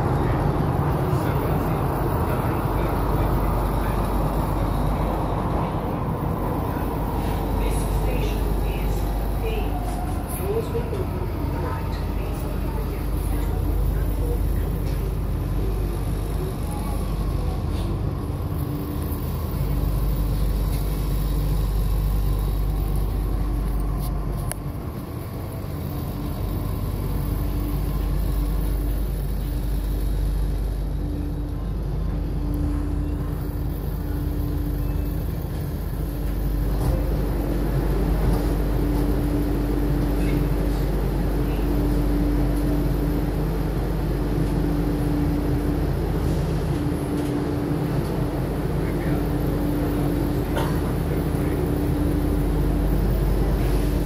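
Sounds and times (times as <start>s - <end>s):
constant hum: 0.0s - 54.0s
train running rumble: 0.0s - 54.0s.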